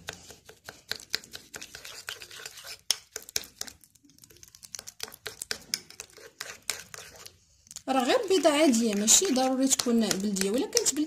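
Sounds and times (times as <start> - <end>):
spoon mashing paste in bowl: 0.0 - 11.0
spoon scraping bowl: 0.0 - 11.0.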